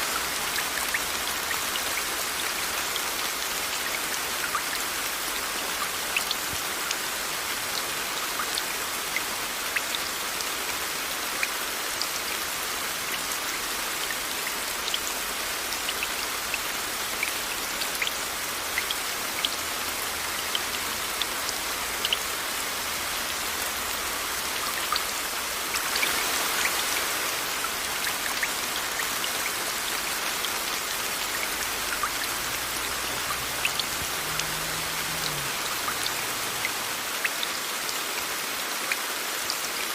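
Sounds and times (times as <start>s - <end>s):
steady rain hiss: 0.0s - 39.9s
raindrops ticking: 0.1s - 10.1s, 13.0s - 37.5s.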